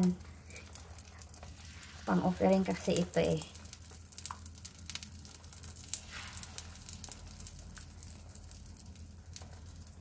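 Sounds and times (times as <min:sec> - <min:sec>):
fish frying in oil: 0:00.0 - 0:10.0.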